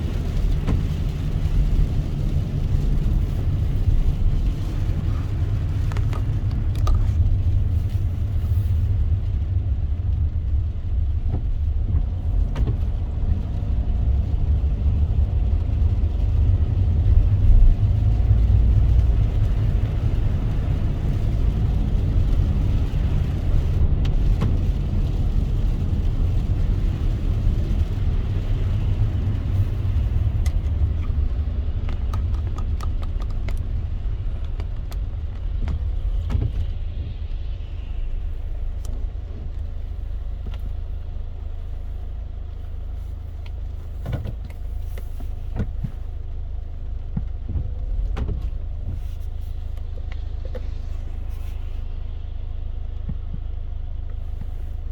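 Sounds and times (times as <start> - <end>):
road and engine rumble: 0.0 - 54.9.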